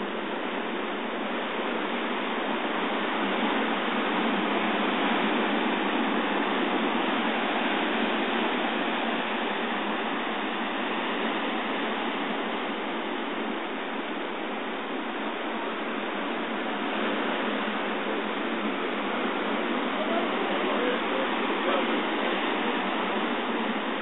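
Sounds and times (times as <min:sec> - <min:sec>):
ocean surf breaking on rocks: 0:00.0 - 0:24.0.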